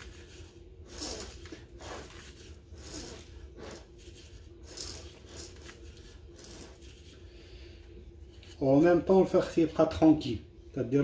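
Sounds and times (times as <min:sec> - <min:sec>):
hands scraping and rustling a birdcage: 0:00.0 - 0:09.6
faint steady hum: 0:00.0 - 0:11.0.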